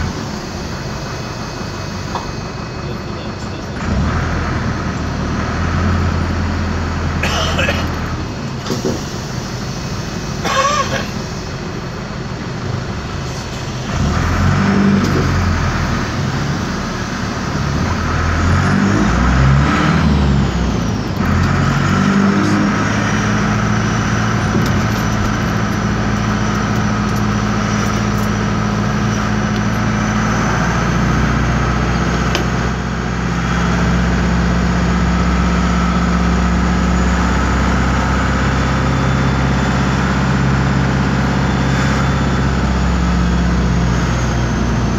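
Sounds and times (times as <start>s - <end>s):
bus diesel engine accelerating: 0.0s - 44.9s.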